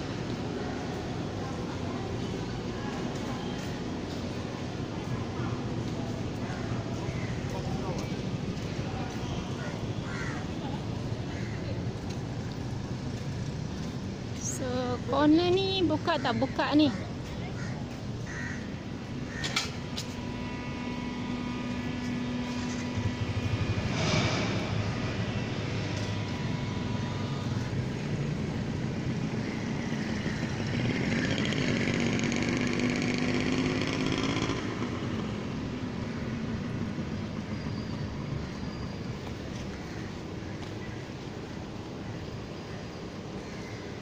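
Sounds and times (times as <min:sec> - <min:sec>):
vehicles passing by: 0:00.0 - 0:44.0.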